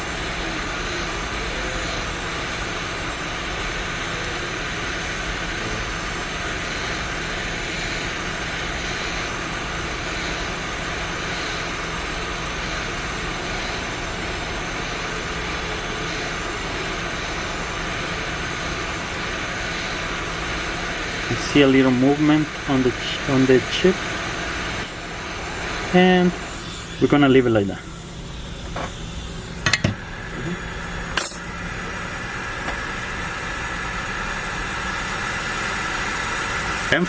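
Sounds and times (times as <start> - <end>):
hot air station hissing: 0.0 - 37.0.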